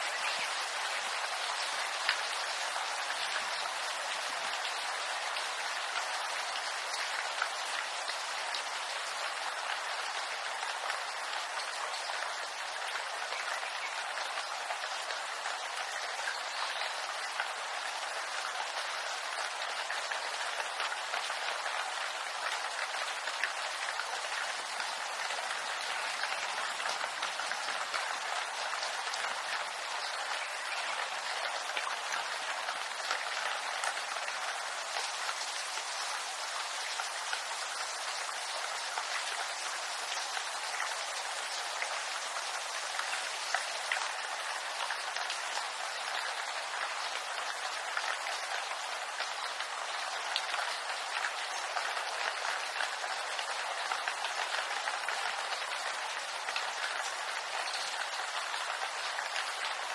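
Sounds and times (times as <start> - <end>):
rain on bamboo leaves: 0.0 - 59.9.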